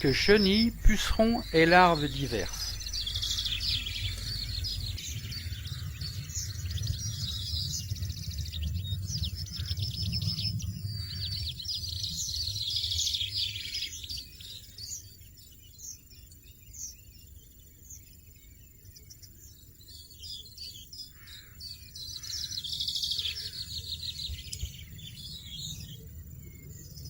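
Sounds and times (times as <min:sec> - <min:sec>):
goldfinches chirping: 0:00.0 - 0:27.0.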